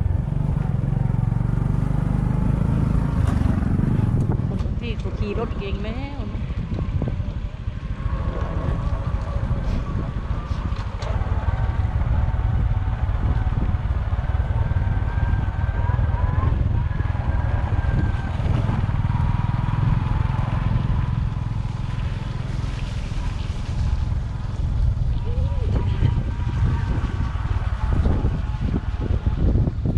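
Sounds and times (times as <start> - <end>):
motorcycle engine rumbling: 0.0 - 29.9.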